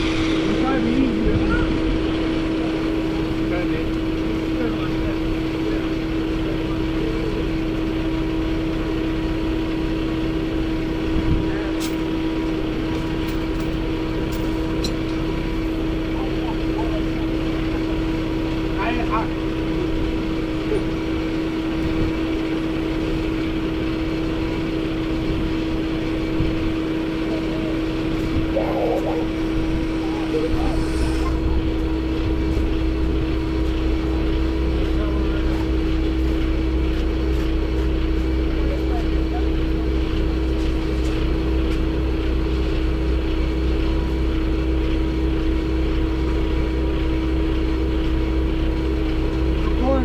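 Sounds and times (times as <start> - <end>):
moving truck engine drone: 0.0 - 50.0
vehicle running rumble: 0.0 - 50.0.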